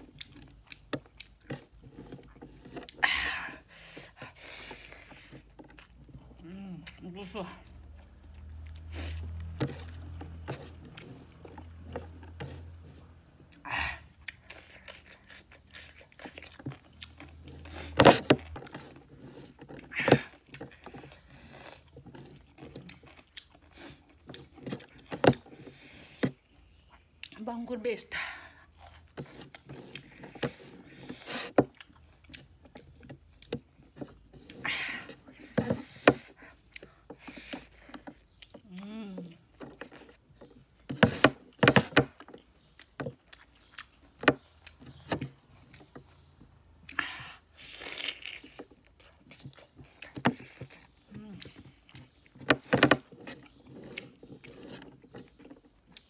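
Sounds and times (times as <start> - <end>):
person chewing food: 0.0 - 27.5, 28.3 - 56.0.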